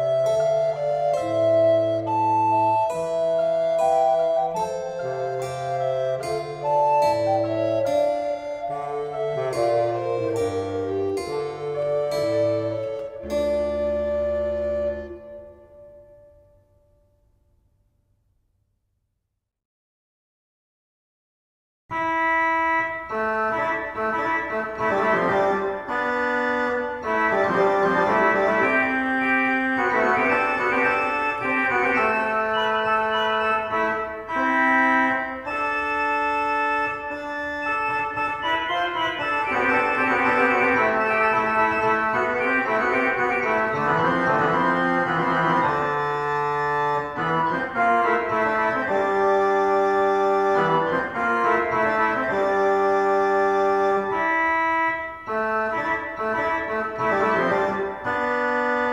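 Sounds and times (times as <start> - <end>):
organ playing chords and melody: 0.0 - 17.0, 21.9 - 58.9.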